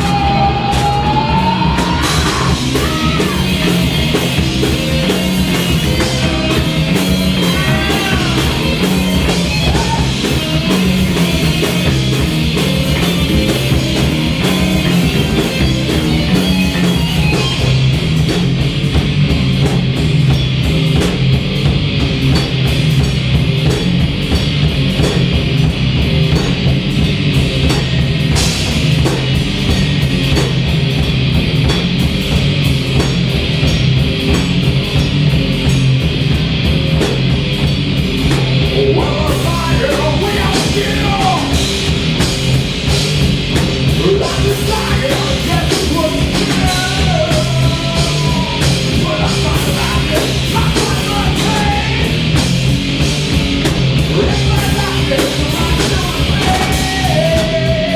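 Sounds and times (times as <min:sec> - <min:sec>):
heavy rock band playing: 0:00.0 - 0:57.9
wavering lead guitar line: 0:00.0 - 0:57.9.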